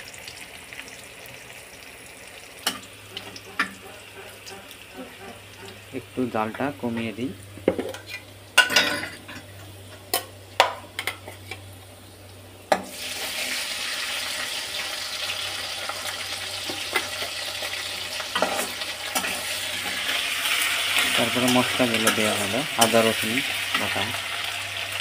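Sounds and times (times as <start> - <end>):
food sizzling in oil: 0.0 - 6.6, 7.3 - 25.0.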